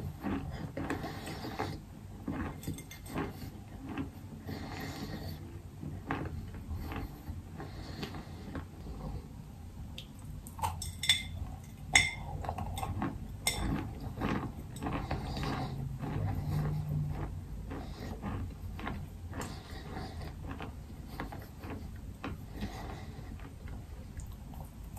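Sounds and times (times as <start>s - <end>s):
chewing crunches: 0.0s - 9.2s, 9.9s - 24.9s.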